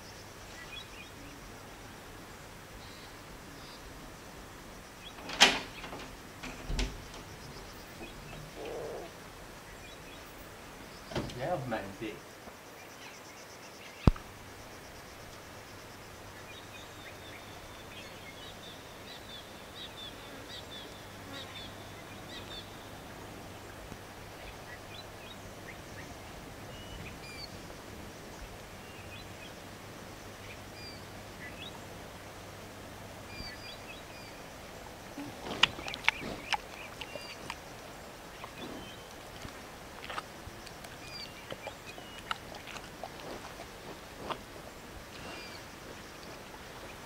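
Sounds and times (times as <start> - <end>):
steady background noise: 0.0 - 47.0.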